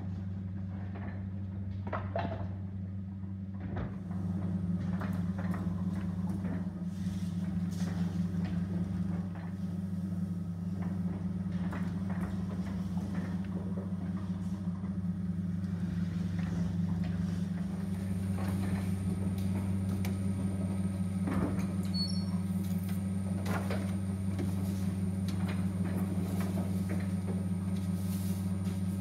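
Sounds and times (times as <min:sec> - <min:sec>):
printing press humming: 0:04.0 - 0:29.0.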